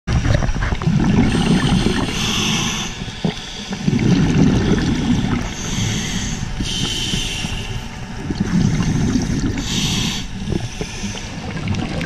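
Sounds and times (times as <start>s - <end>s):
exhaled air bubbling: 0.1s - 12.0s
regulator inhalation hiss: 1.2s - 11.4s.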